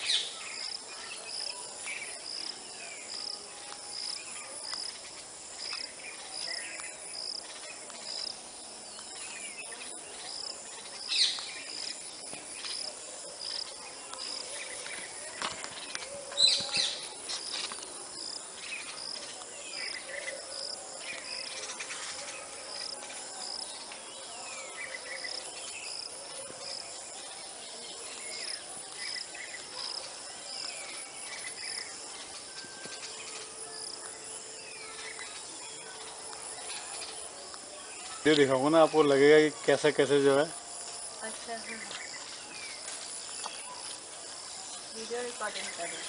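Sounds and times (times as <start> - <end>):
insects chirping: 0.0 - 46.0.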